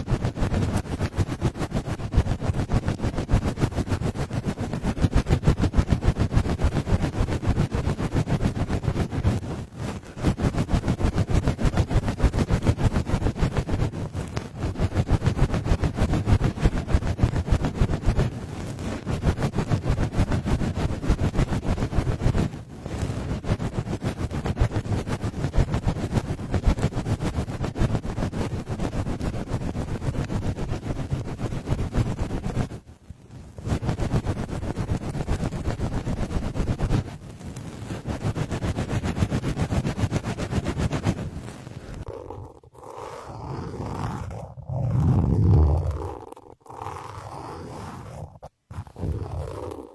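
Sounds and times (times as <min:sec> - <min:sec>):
hand fluttering on microphone: 0:00.0 - 0:49.9.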